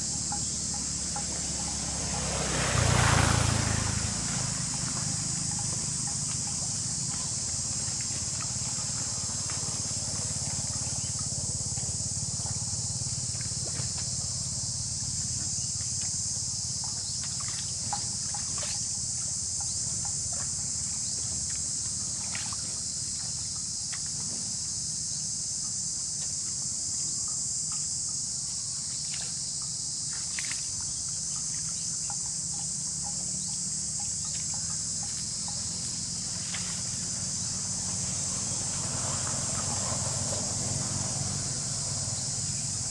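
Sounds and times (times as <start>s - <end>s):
high-pitched insect chorus: 0.0s - 42.9s
low steady rumble: 0.0s - 42.9s.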